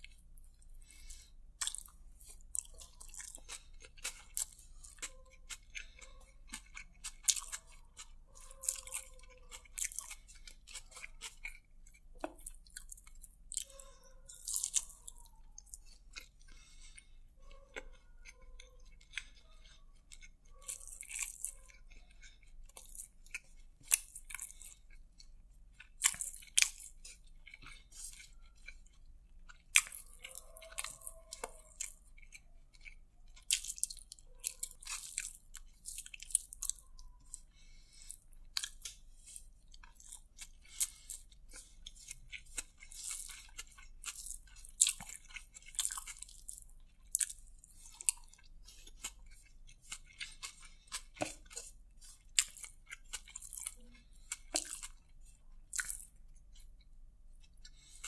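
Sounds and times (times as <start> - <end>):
wet chewing mouth sounds: 0.0 - 58.0.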